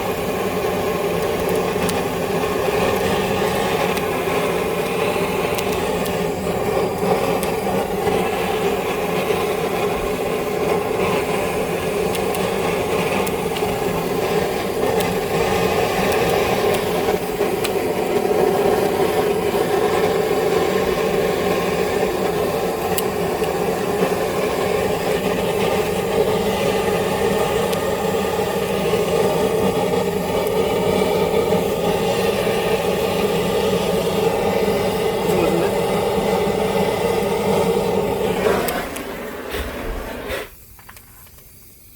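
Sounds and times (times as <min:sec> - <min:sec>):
small motor whirring: 0:00.4 - 0:40.6.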